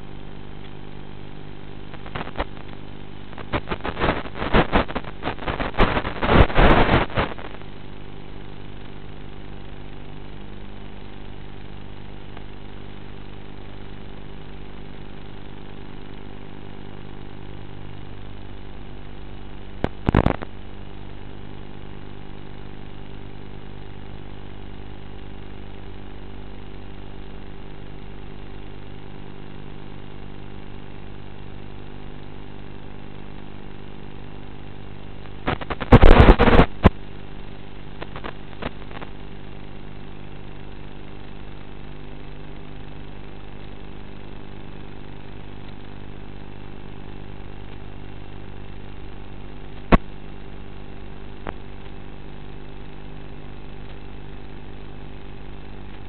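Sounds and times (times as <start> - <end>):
loud crackle bursts: 1.7 - 54.1.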